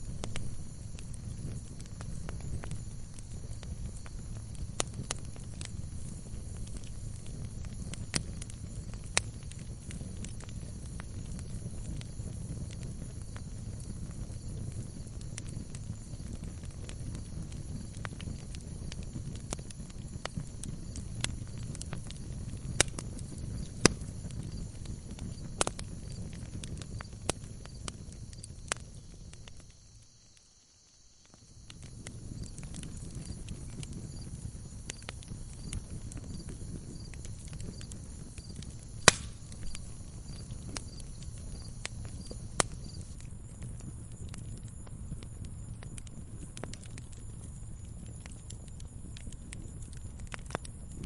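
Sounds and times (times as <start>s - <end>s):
fire crackling and popping: 0.0s - 51.0s
low rumble of flames: 0.0s - 51.0s.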